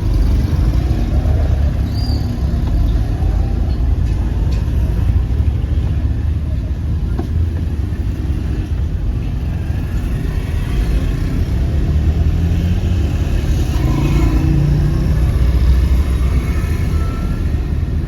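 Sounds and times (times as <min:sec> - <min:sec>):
traffic engine rumble: 0:00.0 - 0:18.0.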